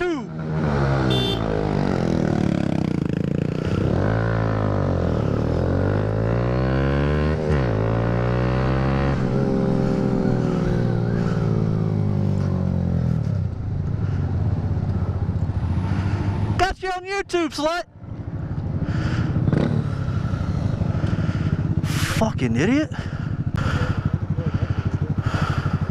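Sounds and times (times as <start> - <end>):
motorcycle engine accelerating: 0.3 - 16.6, 18.0 - 25.9.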